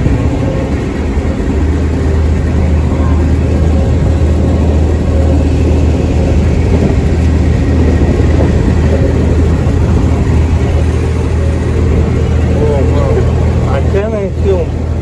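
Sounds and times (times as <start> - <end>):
train rumbling with low drone: 0.0 - 15.0.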